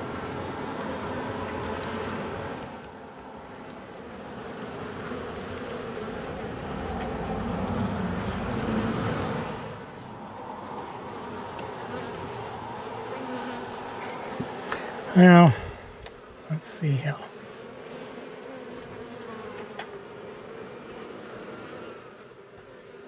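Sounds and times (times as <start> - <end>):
bees buzzing loudly: 0.0 - 23.0.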